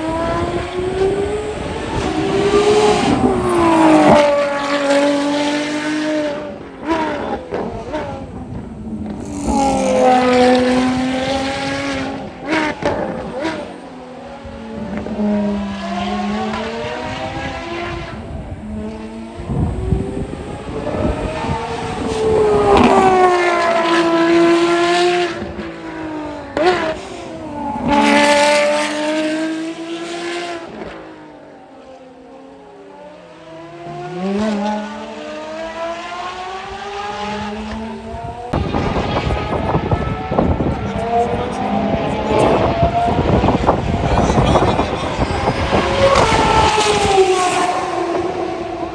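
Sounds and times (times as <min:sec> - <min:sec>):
racing car engines passing: 0:01.1 - 0:08.1, 0:09.0 - 0:17.9, 0:20.5 - 0:31.2, 0:32.0 - 0:48.9.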